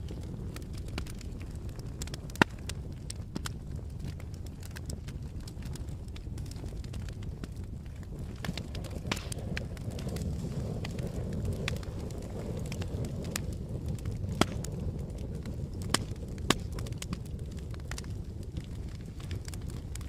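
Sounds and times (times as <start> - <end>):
burning wood crackling and popping: 0.0 - 20.0
campfire flames rushing: 0.0 - 20.0.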